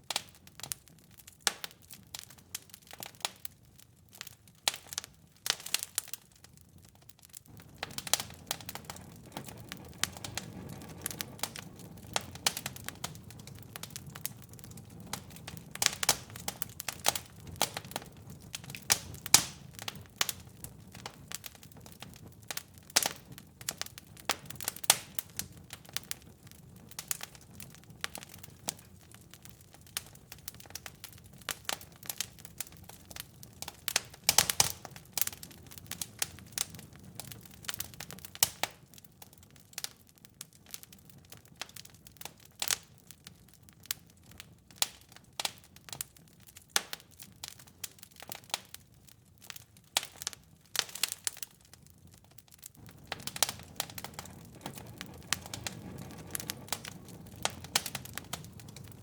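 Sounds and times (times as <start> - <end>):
faint rumble of flames: 0.0 - 59.0
wood fire crackling and popping: 0.0 - 59.0.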